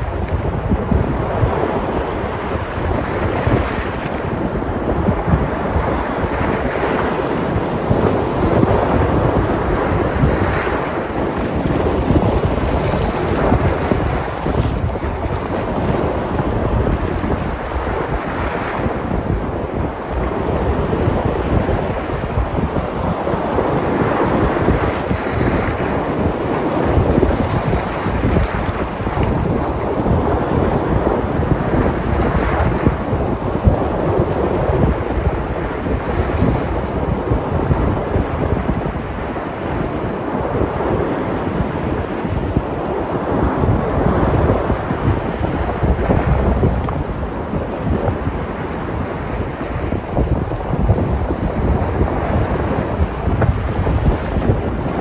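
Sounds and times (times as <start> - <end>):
sea surf washing onto shore: 0.0 - 55.0
wind rumbling on microphone: 0.0 - 55.0.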